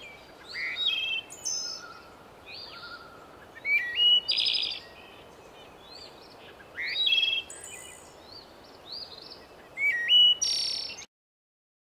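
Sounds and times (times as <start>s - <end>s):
songbird singing with buzzy trill: 0.0s - 11.1s
steady background hiss: 0.0s - 11.1s.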